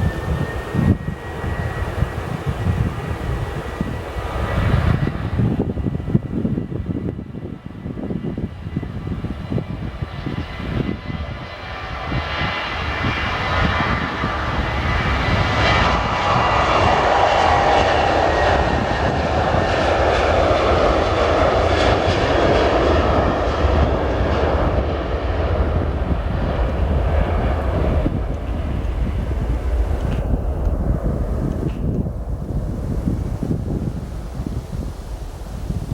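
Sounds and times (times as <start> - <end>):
jet airliner passing: 0.0 - 35.9.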